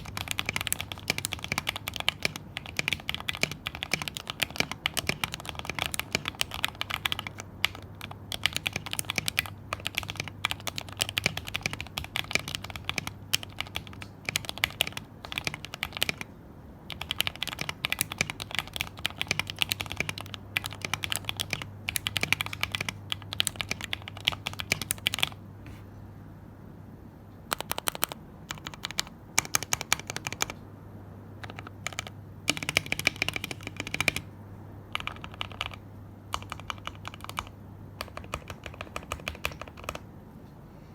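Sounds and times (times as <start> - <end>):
typing on mechanical keyboard: 0.0 - 16.3, 16.9 - 25.4, 27.5 - 30.6, 31.4 - 34.3, 34.9 - 40.0.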